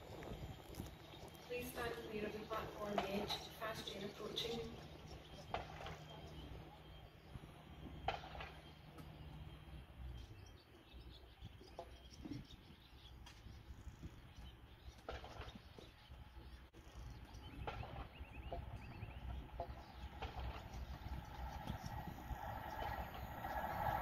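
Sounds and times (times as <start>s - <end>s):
bird chirps: 0.0s - 24.0s
low wind rumble: 0.0s - 24.0s.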